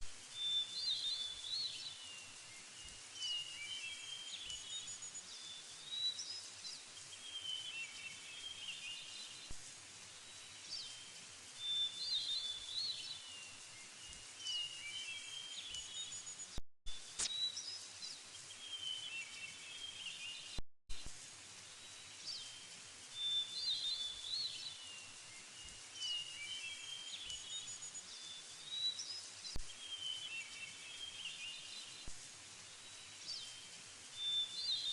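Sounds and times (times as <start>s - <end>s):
steady background hiss: 0.0s - 34.9s.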